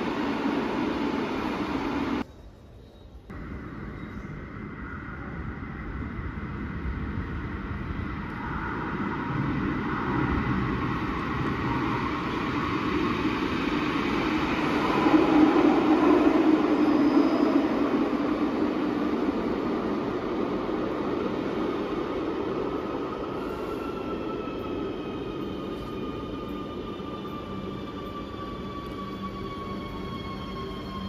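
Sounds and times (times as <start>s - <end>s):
electric train rumbling: 0.0s - 31.0s.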